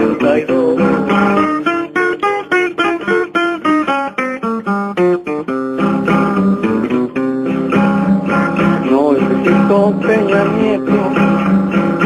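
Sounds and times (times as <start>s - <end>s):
acoustic guitar plucking and strumming: 0.0s - 12.0s.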